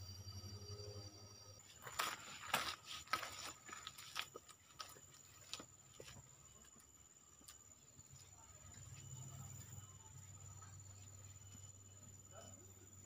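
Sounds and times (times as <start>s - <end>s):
high-pitched insect whine: 0.0s - 13.0s.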